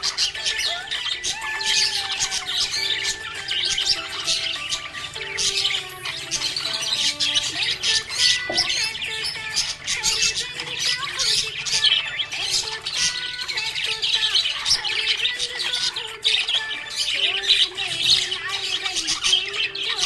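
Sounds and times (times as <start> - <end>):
parrots chirping and squawking: 0.0 - 20.0.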